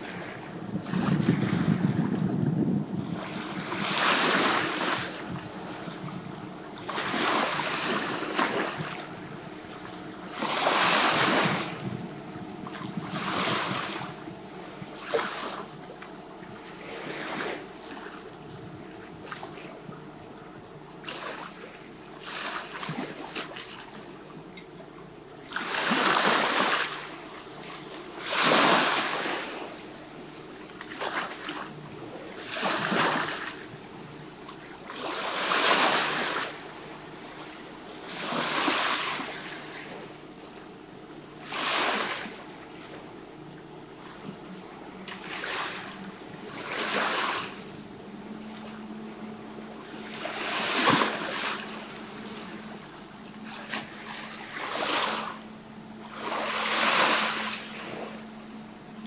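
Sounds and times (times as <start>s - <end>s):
sea waves washing in: 0.0s - 16.0s, 16.6s - 19.8s, 21.0s - 24.3s, 25.4s - 40.3s, 41.2s - 59.0s
faint steady hum: 0.0s - 59.0s.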